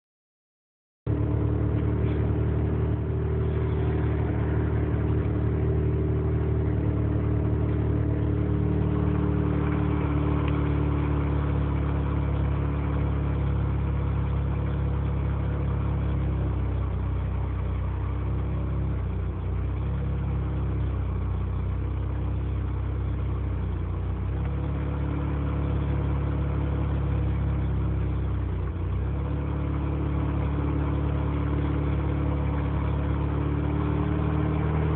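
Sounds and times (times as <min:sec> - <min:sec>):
rotary engine idling roughly: 0:01.1 - 0:34.9.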